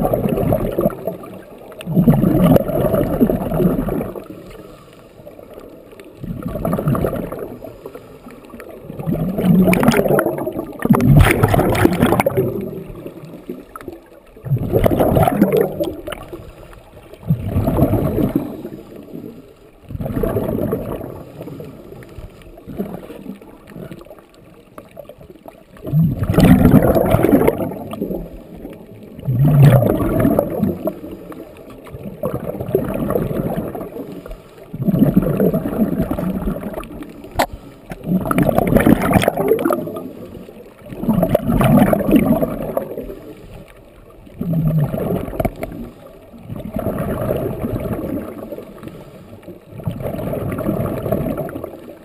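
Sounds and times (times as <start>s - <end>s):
exhaled bubbles gurgling underwater: 0.0s - 52.0s.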